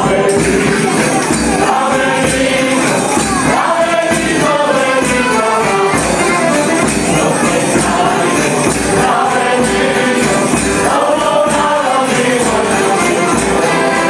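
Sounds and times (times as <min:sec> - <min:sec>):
drum beat: 0:00.0 - 0:14.0
ensemble singing in chorus: 0:00.0 - 0:14.0
jingling percussion: 0:00.0 - 0:14.0
string instrumental accompaniment: 0:00.0 - 0:14.0.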